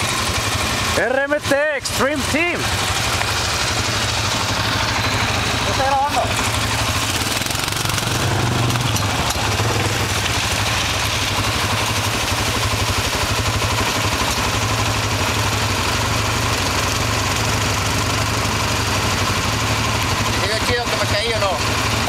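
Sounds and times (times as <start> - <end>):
atv engine idling: 0.0 - 22.0.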